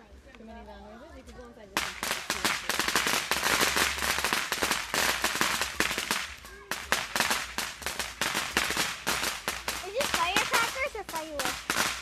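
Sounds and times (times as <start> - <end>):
firecrackers popping: 1.7 - 12.0.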